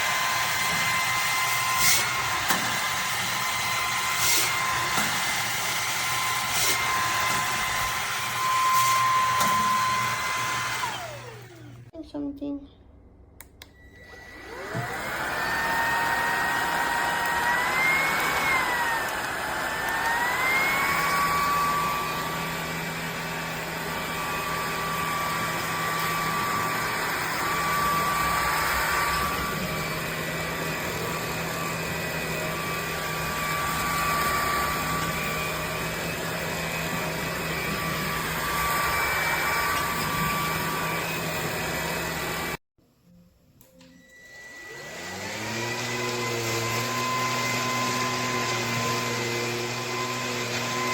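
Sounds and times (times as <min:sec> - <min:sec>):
stick vacuum motor whining: 0:00.0 - 0:11.9, 0:13.6 - 0:42.6, 0:43.8 - 0:50.9.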